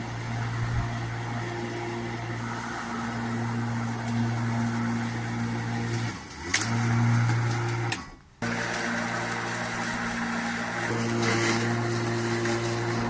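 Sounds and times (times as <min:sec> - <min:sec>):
electric lawnmower motor humming: 0:00.0 - 0:13.0.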